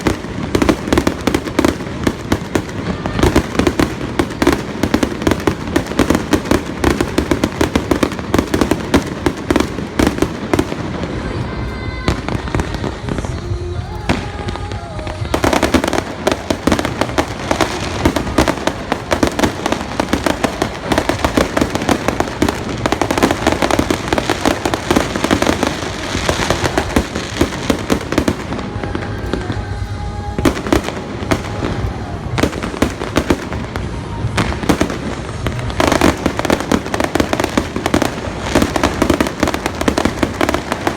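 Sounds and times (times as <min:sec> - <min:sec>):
fireworks bangs and crackles: 0:00.0 - 0:40.9
music playing: 0:00.0 - 0:40.9.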